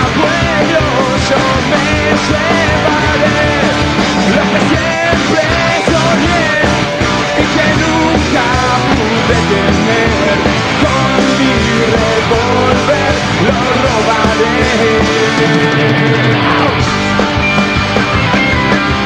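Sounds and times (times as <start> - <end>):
bending electric guitar line: 0.0 - 19.0
live punk rock band: 0.0 - 19.0.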